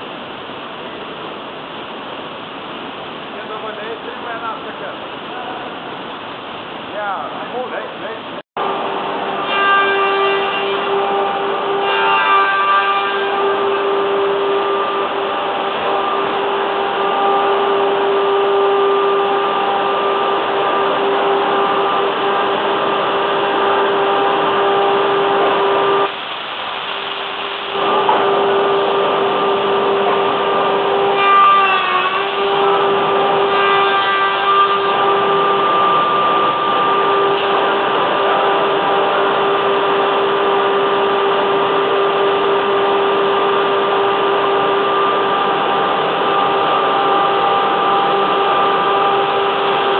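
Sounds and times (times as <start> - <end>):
woodworking machinery droning: 3.4 - 5.9, 7.0 - 26.2, 27.1 - 49.9.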